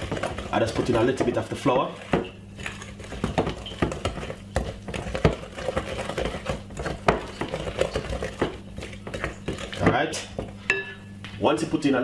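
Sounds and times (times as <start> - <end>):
wooden spoon scraping glass bowl: 0.0 - 11.0.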